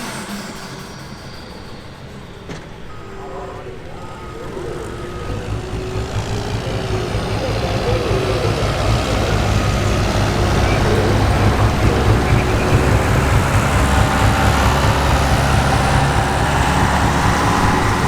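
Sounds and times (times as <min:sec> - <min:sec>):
diesel truck engine droning: 0:00.0 - 0:18.0.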